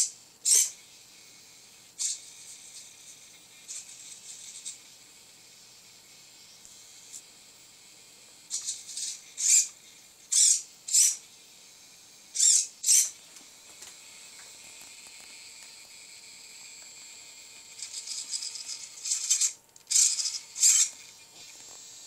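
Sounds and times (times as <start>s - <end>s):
small servos whirring: 0.0s - 22.0s.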